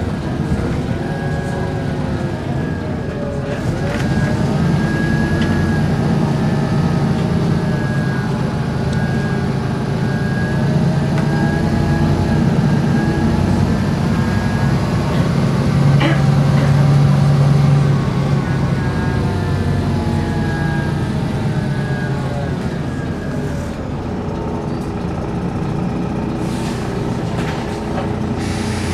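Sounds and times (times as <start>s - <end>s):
bus engine running: 0.0s - 28.9s.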